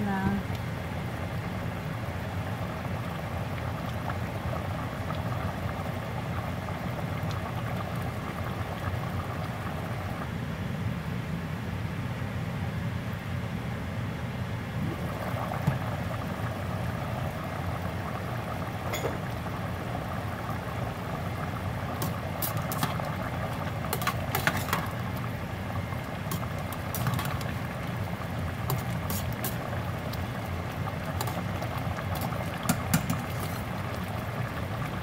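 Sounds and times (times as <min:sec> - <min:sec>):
stew bubbling: 0:00.2 - 0:10.3, 0:14.8 - 0:35.0.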